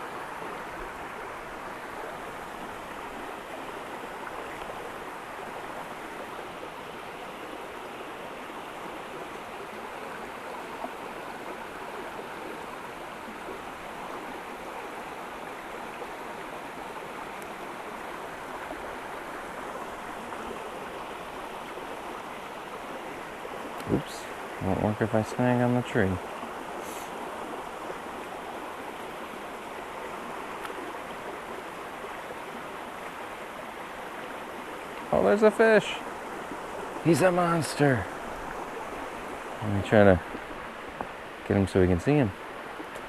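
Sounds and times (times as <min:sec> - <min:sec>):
creek water tumbling over rocks: 0:00.0 - 0:43.0.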